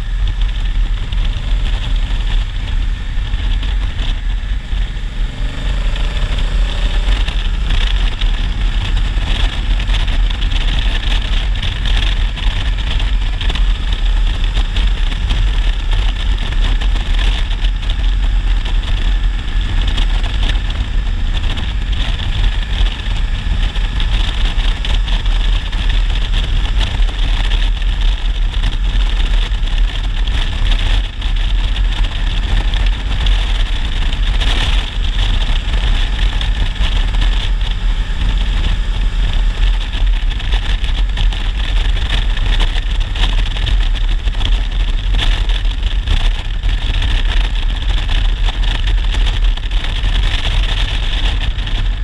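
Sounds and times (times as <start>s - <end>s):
motorcycle engine cruising: 0.0s - 52.0s
wind rushing over microphone: 0.0s - 52.0s.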